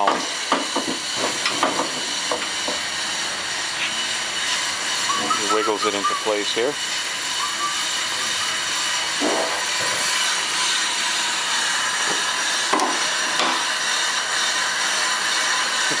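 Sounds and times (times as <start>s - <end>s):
steady shop hiss: 0.0s - 16.0s.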